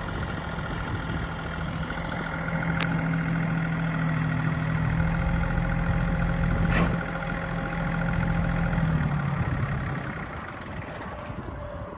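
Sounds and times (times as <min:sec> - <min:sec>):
tractor diesel engine idling: 0:00.0 - 0:11.6.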